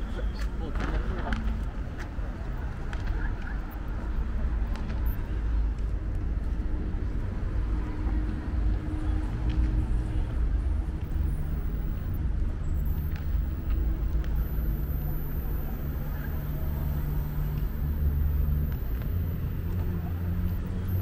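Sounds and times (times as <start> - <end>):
road rumble: 0.0 - 21.0
vehicle engine humming: 0.0 - 21.0.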